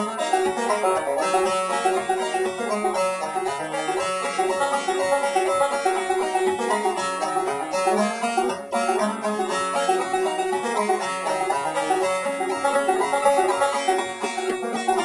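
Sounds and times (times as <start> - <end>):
fast plucked-string tune: 0.0 - 15.0.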